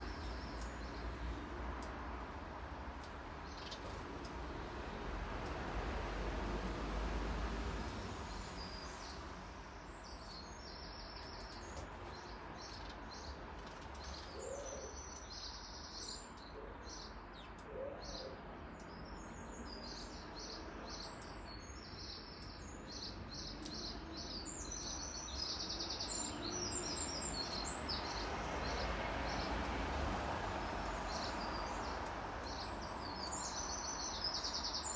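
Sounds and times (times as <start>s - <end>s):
small songbirds chirping: 0.0s - 6.1s, 7.8s - 34.9s.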